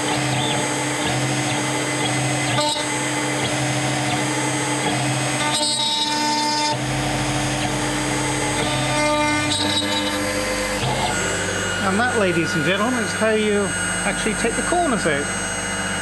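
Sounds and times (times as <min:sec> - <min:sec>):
bit cutting wood: 0:00.0 - 0:16.0
router spindle whine: 0:00.0 - 0:16.0.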